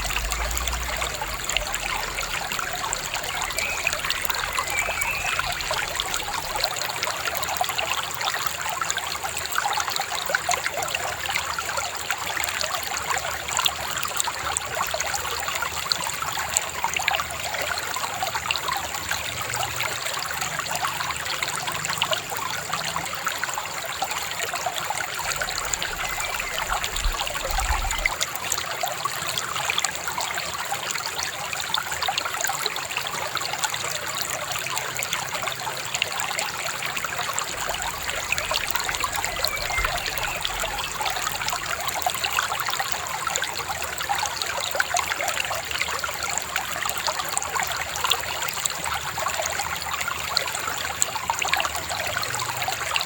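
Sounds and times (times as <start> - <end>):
shallow river babbling over stones: 0.0 - 53.0.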